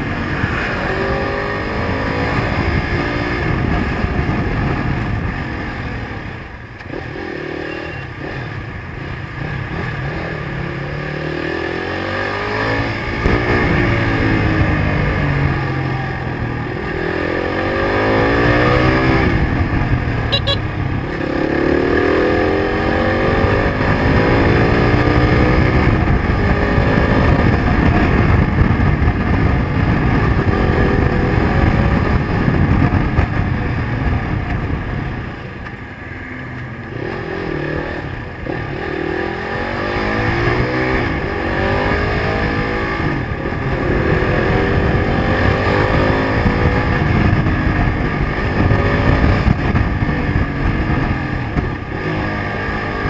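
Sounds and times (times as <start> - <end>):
wind rumble on microphone: 0.0 - 7.2, 8.2 - 53.0
motorcycle engine revving: 0.0 - 53.0.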